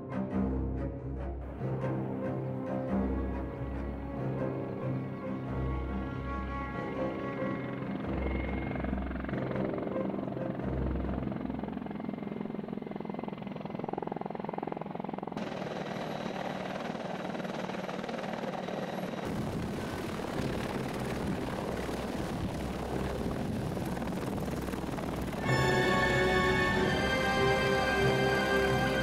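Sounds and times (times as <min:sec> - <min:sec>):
turbine engines whining: 0:01.5 - 0:29.0
helicopter rotor beating: 0:04.3 - 0:29.0.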